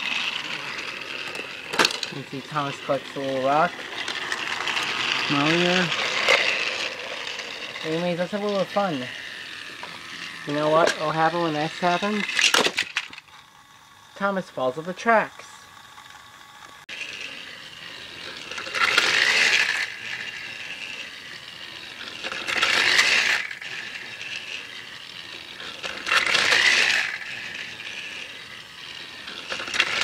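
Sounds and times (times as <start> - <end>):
toy train motor whirring: 0.0 - 30.0.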